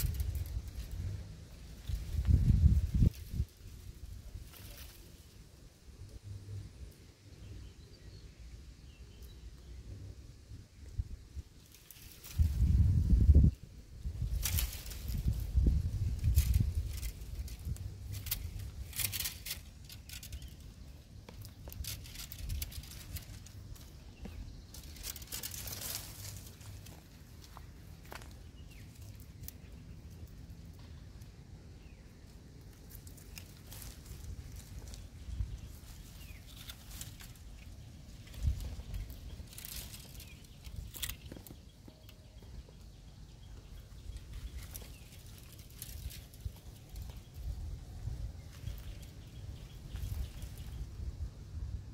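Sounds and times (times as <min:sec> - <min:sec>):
wind rumbling on microphone: 0:00.0 - 0:07.0, 0:09.9 - 0:31.2, 0:32.8 - 0:51.9
leaves and branches rustling: 0:00.0 - 0:51.9.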